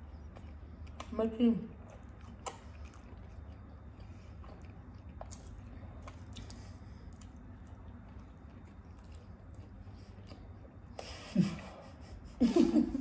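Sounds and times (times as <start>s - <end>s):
wet chewing: 0.0s - 11.1s
low steady hum: 0.0s - 13.0s.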